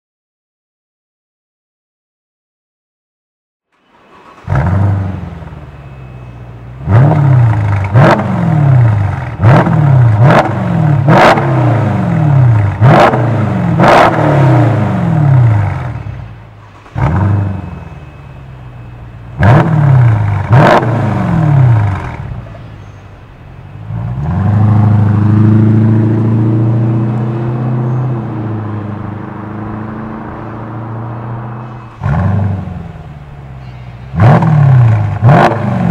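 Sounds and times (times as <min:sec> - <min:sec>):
car engine revving: 0:03.8 - 0:18.3, 0:19.1 - 0:22.7, 0:23.7 - 0:35.9
car pulling away with low drone: 0:03.8 - 0:35.9.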